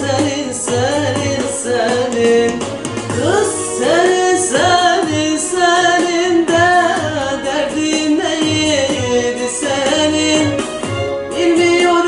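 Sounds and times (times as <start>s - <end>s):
woman singing folk song: 0.0s - 10.6s, 11.3s - 12.0s
backing track with low beat: 0.0s - 12.0s.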